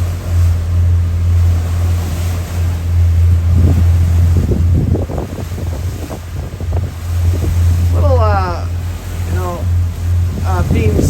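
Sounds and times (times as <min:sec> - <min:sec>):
boat engines droning: 0:00.0 - 0:11.0
water washing along hull: 0:00.0 - 0:11.0
wind buffeting microphone: 0:00.0 - 0:11.0.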